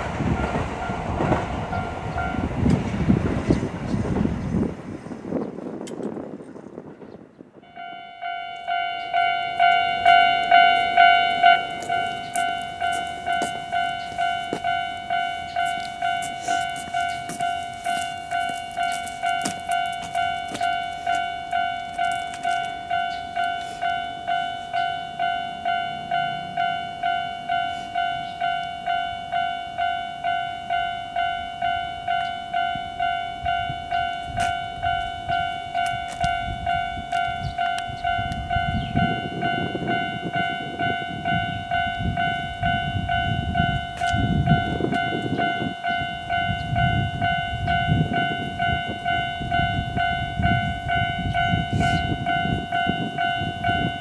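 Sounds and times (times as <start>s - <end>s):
level-crossing alarm clanging: 0.0s - 4.3s, 7.7s - 54.0s.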